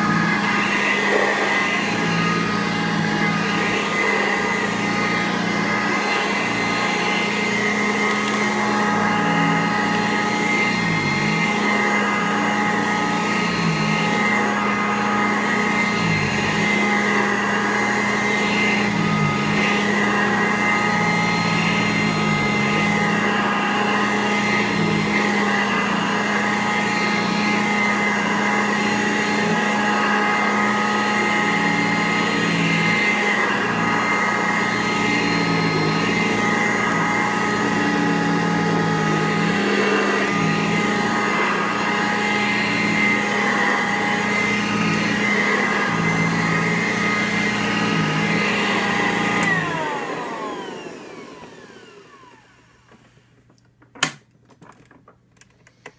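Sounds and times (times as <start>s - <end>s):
upright vacuum cleaner on carpet: 0.0s - 54.3s.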